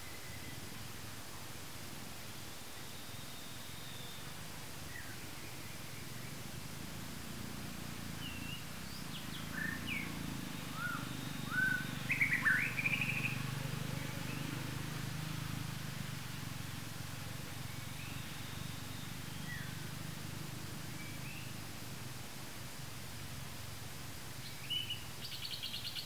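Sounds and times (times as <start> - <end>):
birds chirping: 2.7 - 22.1, 24.4 - 26.0.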